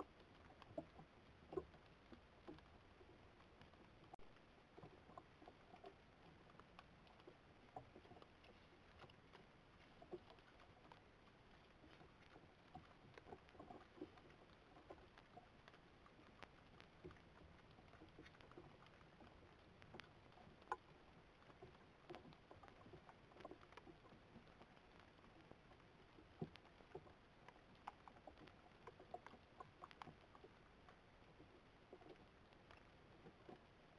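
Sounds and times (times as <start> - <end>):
soft ticks and crackles: 0.0 - 33.9.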